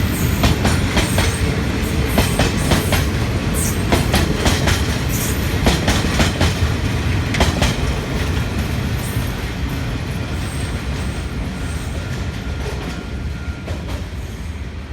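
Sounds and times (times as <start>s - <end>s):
train rumbling past: 0.0s - 14.9s
rail-joint clicks: 0.2s - 14.2s.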